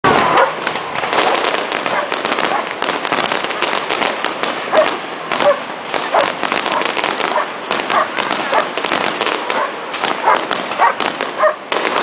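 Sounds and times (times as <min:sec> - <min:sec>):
firecrackers popping and cracking: 0:00.1 - 0:12.0.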